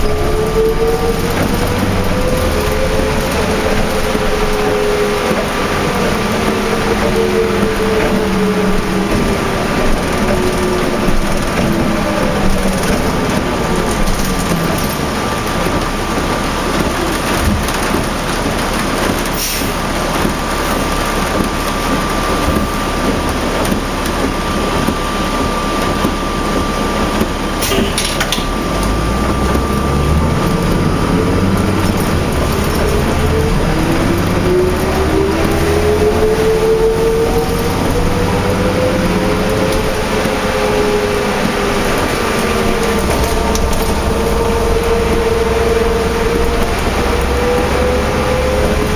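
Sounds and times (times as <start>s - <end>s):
bus engine and driveline whine: 0.0s - 48.9s
heavy rain: 0.0s - 48.9s
road noise: 0.0s - 48.9s.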